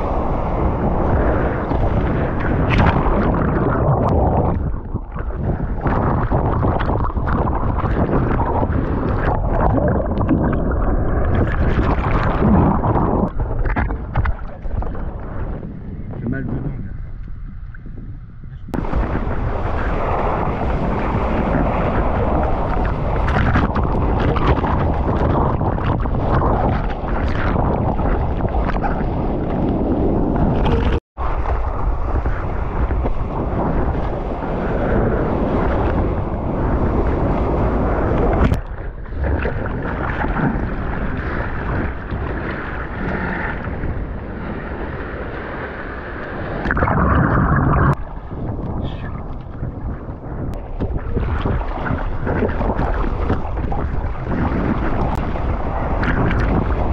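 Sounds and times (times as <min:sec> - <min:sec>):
surf and whitewater rushing: 0:00.0 - 0:15.6, 0:18.7 - 0:56.9
wind buffeting microphone: 0:00.0 - 0:56.9.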